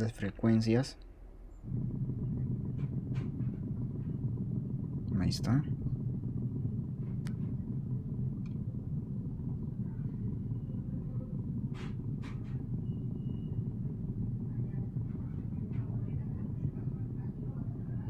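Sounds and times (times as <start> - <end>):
speaker low hum: 0.0 - 18.0.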